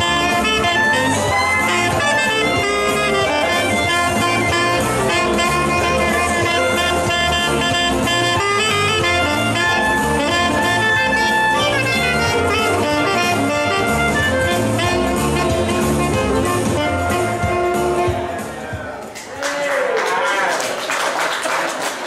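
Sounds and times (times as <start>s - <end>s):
tenor saxophone: 0.0s - 18.6s
clarinet: 0.0s - 18.7s
bass line: 0.0s - 19.0s.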